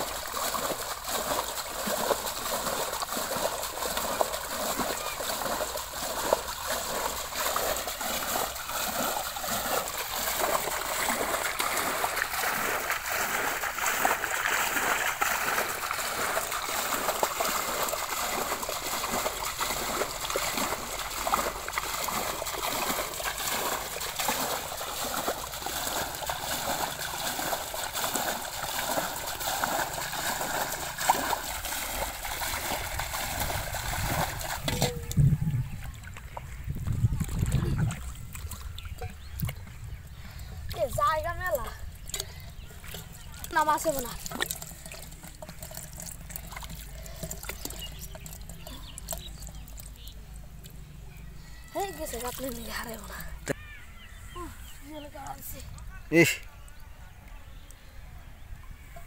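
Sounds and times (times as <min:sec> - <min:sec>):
water splashing from bailing: 0:00.0 - 0:56.5.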